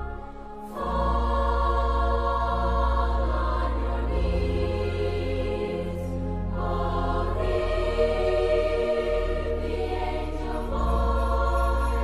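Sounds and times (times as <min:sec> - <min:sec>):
slow choral music: 0:00.0 - 0:12.0.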